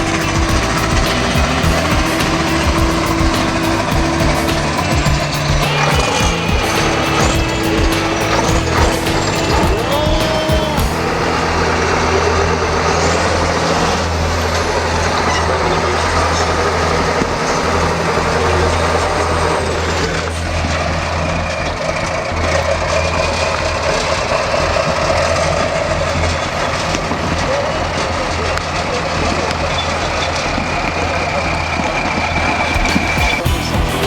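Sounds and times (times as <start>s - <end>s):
truck diesel engine running: 0.0s - 34.0s.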